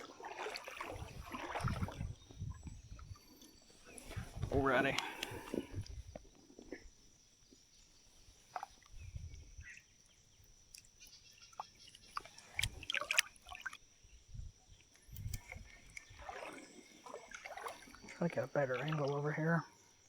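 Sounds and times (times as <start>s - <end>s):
creek water splashing: 0.0s - 14.1s, 14.7s - 20.0s.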